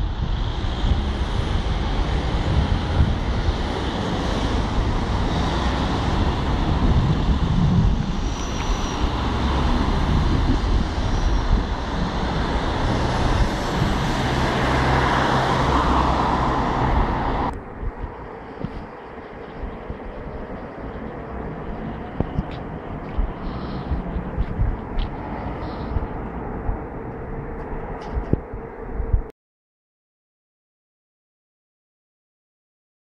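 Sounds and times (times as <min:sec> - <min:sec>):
cars driving past: 0:00.0 - 0:28.7.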